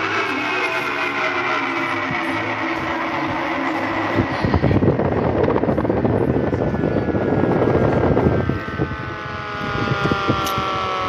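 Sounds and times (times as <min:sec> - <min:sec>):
loud rough noise: 0:00.0 - 0:11.0
tornado siren winding down: 0:00.0 - 0:11.0.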